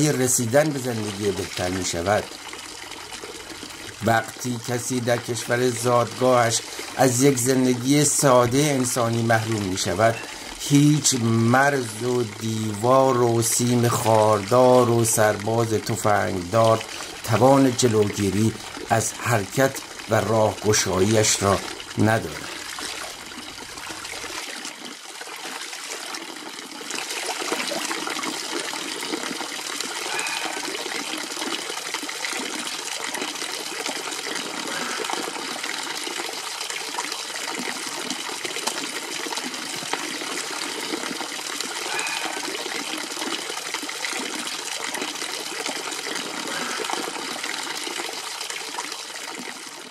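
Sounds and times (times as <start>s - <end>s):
water pouring into stone trough: 0.0s - 49.9s.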